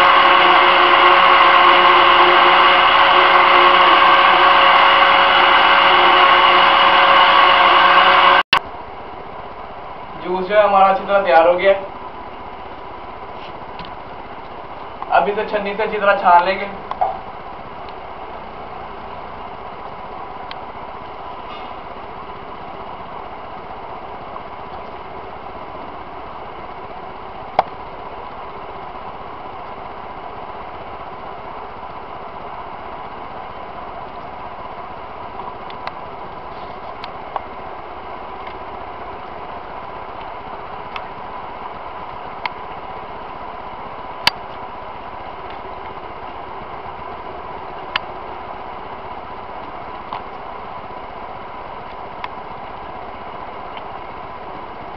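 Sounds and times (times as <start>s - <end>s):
machine humming: 0.0s - 54.9s.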